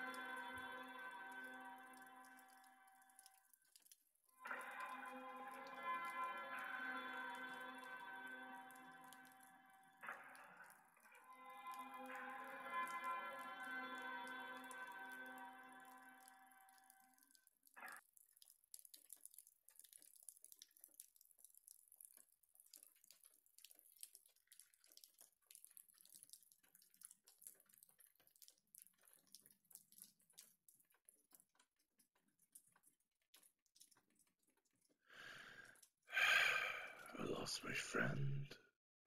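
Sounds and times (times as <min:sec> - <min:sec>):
faint crackles and ticks: 0:00.0 - 0:38.1.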